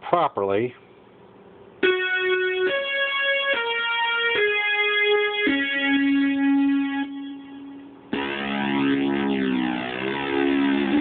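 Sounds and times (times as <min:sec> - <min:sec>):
synthesizer notes stepping down: 0:01.8 - 0:11.0.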